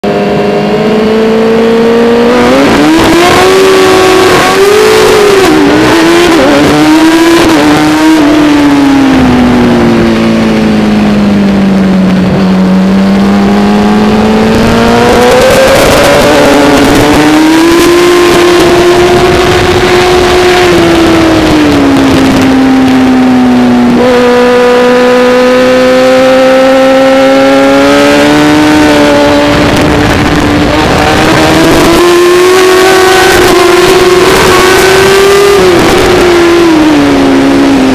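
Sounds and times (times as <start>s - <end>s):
racing motorcycle engine revving: 0.0s - 37.9s.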